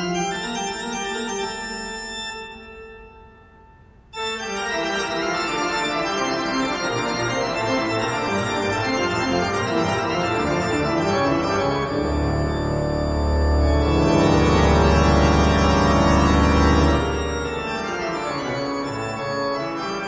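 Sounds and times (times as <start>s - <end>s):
organ music: 0.0s - 20.0s.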